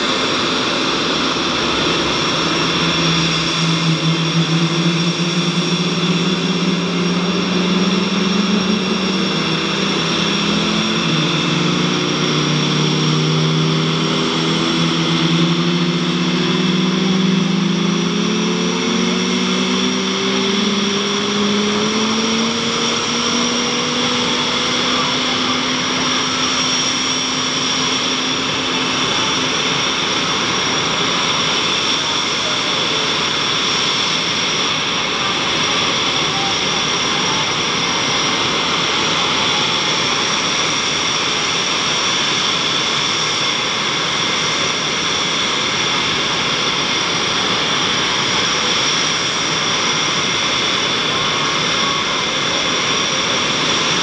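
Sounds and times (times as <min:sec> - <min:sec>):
high turbine whine: 0:00.0 - 0:54.0
jet engines starting up: 0:00.0 - 0:54.0.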